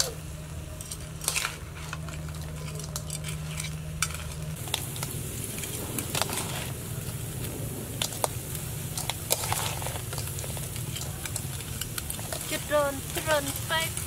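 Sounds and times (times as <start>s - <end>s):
crabs sizzling in a wok: 0.0s - 14.0s
metal spatula scraping: 0.7s - 7.3s, 9.0s - 14.0s.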